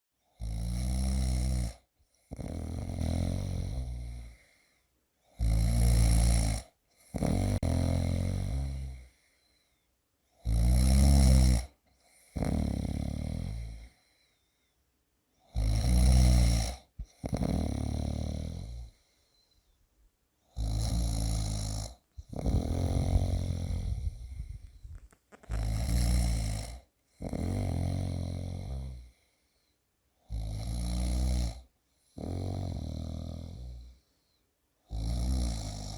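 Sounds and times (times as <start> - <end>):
person snoring: 0.4 - 4.7, 5.3 - 9.2, 10.4 - 14.0, 15.4 - 19.0, 20.5 - 29.2, 30.2 - 34.1, 34.9 - 35.9.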